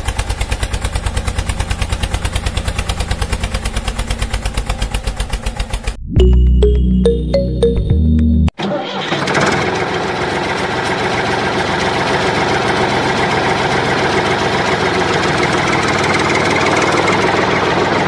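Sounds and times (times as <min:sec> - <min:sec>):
engine idling with knocking chatter: 0:00.0 - 0:05.9, 0:09.4 - 0:18.0.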